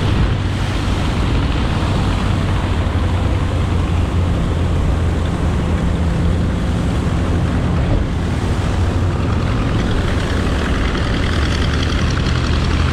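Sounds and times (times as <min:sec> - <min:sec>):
radial engines droning: 0:00.0 - 0:12.9
water noise: 0:00.0 - 0:12.9
wind noise: 0:00.0 - 0:12.9.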